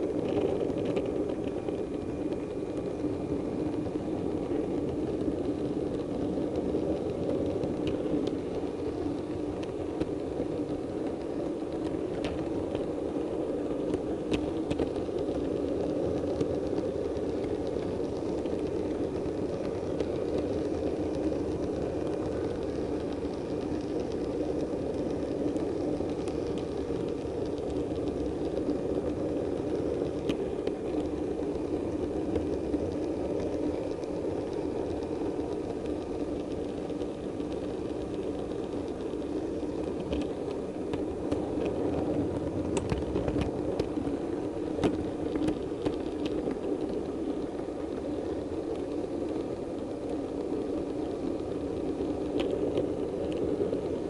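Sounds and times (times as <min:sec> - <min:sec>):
model train motor hum: 0:00.0 - 0:54.0.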